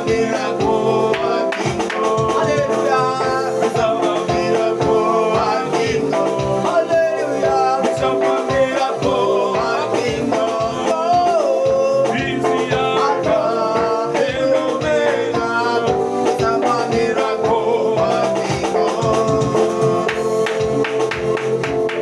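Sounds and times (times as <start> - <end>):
upbeat gospel music with singing: 0.0 - 22.0.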